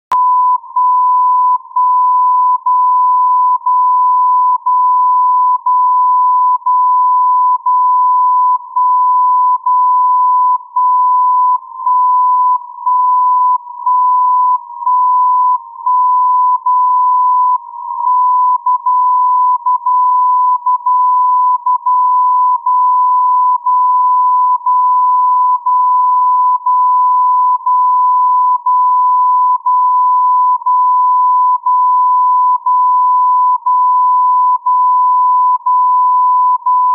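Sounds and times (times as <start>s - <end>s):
steady keyed beep: 0.1s - 36.9s.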